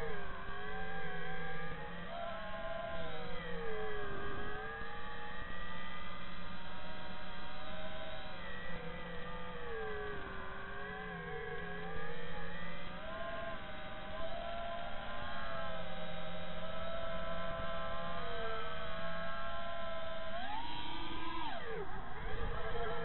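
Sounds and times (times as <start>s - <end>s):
drone motors and propellers whining: 0.0s - 23.0s.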